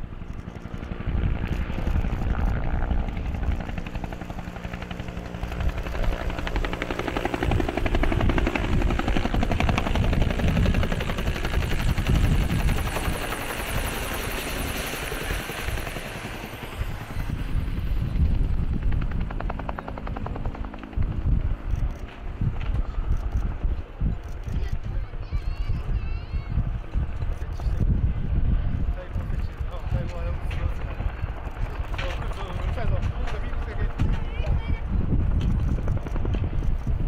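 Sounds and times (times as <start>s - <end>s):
helicopter rotor beat: 0.0s - 37.0s.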